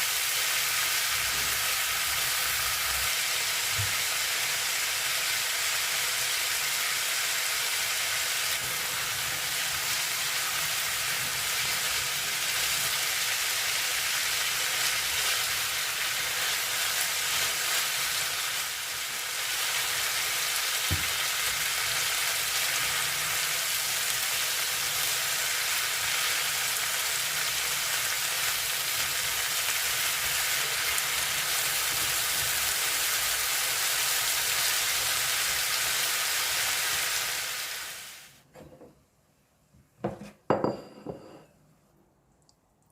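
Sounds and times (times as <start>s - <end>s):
food sizzling in a pan: 0.0s - 38.4s.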